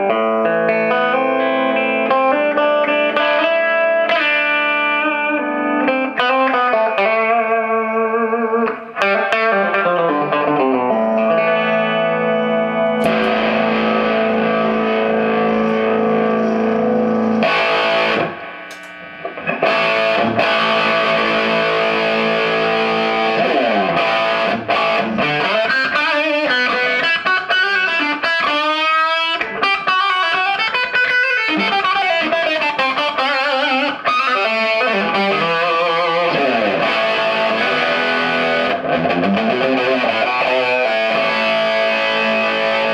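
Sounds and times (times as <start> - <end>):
electric guitar chords and notes: 0.0 - 42.9.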